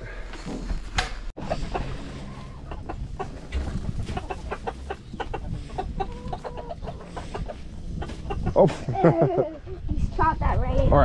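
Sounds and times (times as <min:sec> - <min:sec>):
chickens clucking: 0:01.4 - 0:10.4.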